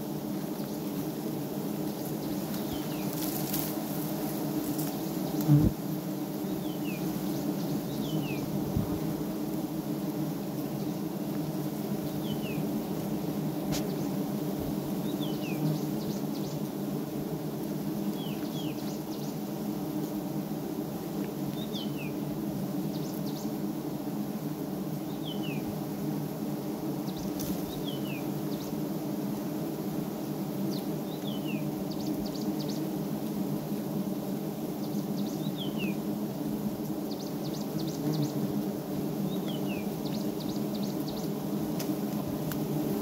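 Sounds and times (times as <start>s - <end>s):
bees buzzing: 0.0s - 43.0s.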